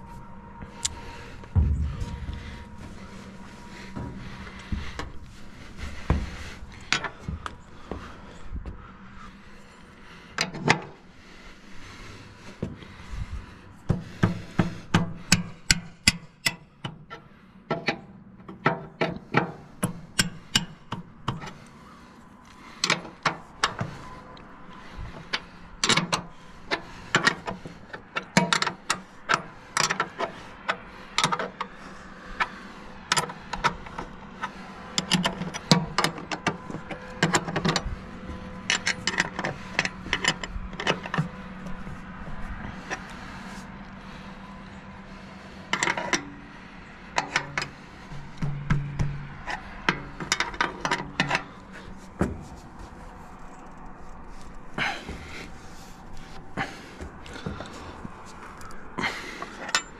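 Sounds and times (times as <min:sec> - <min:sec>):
hand tools clanking on metal: 0:00.8 - 0:08.2, 0:13.9 - 0:21.8, 0:22.8 - 0:43.2, 0:45.6 - 0:59.9.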